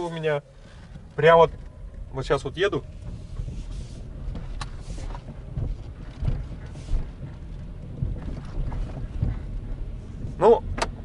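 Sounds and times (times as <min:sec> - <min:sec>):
suspension thuds: 0:00.0 - 0:11.0
tyre and road rumble: 0:00.0 - 0:11.0.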